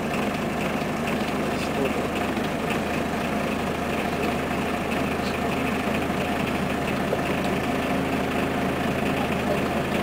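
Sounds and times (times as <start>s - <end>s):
bus diesel engine idling: 0.0s - 10.0s.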